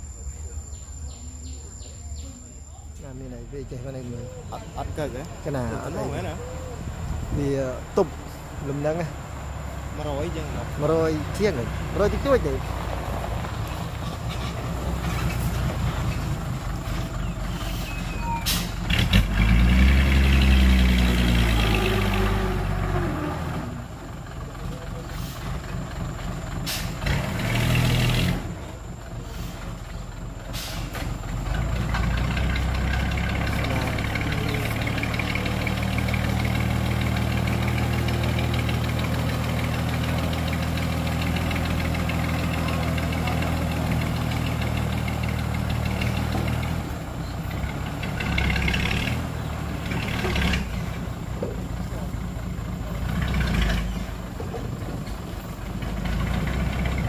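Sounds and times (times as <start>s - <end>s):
diesel truck engine revving: 3.1s - 57.0s.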